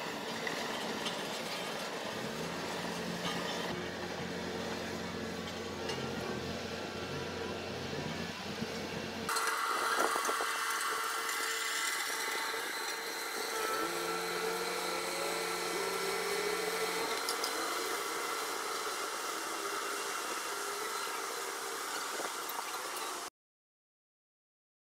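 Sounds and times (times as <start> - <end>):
construction machine engine hum: 0.0 - 23.3
whining machine noise: 0.0 - 23.3.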